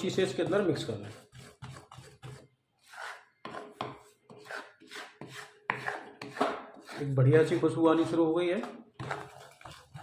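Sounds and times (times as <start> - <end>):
spoon scraping a pan: 0.0 - 10.0.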